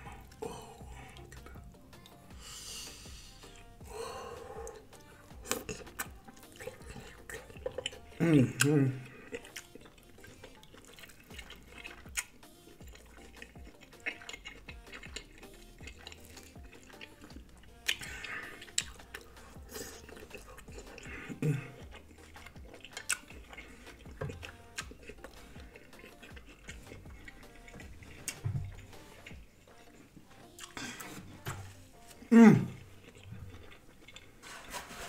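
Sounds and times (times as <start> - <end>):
faint music: 0.0 - 35.0
wet chewing clicks and smacks: 0.1 - 2.2, 4.6 - 31.2, 32.0 - 34.4.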